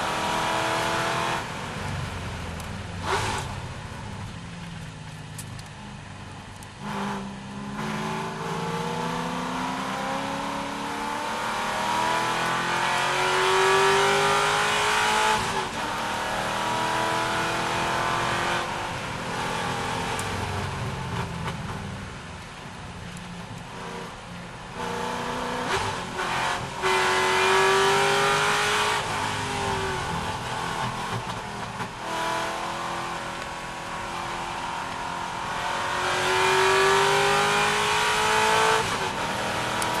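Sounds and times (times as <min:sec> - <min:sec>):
car engine accelerating: 0:00.0 - 0:22.2, 0:23.4 - 0:40.0.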